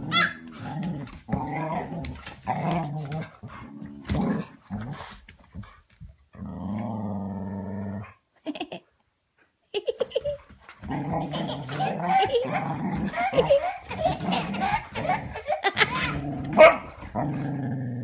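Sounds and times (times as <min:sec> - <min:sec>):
dogs play-growling: 0:00.0 - 0:08.2, 0:10.5 - 0:18.0.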